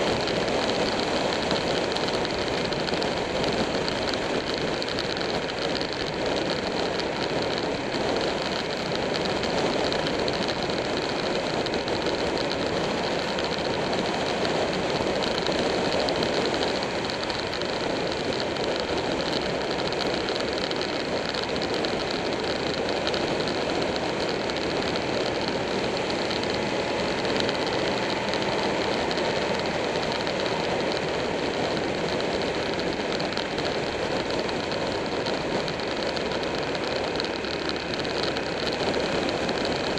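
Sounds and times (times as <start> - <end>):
motorcycle engine droning: 0.0 - 39.9
wind rush over microphone: 0.0 - 39.9.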